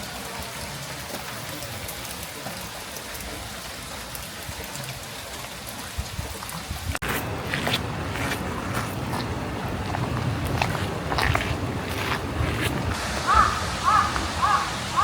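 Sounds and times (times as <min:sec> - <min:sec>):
heavy rain falling: 0:00.0 - 0:15.0
raindrops ticking on surfaces: 0:00.0 - 0:15.0.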